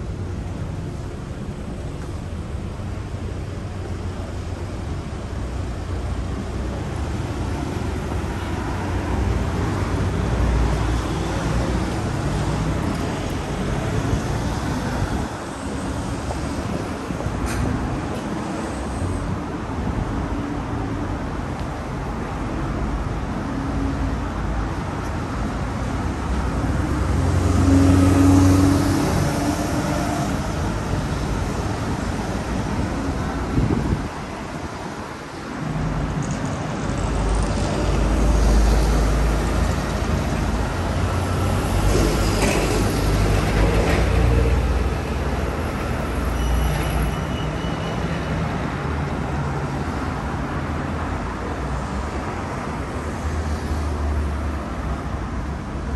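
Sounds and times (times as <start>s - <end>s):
vehicles driving past: 0.0s - 55.9s.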